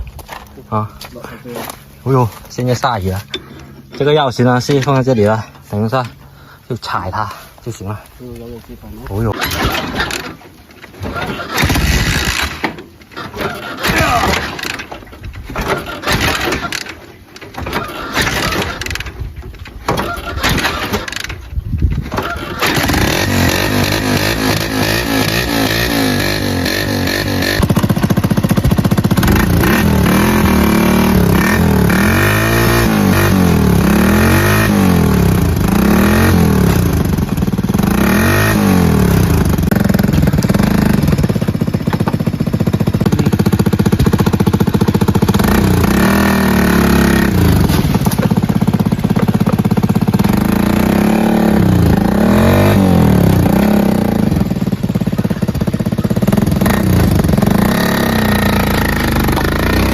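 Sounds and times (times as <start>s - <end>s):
small motorcycle engine revving: 9.1s - 19.2s, 19.9s - 59.9s.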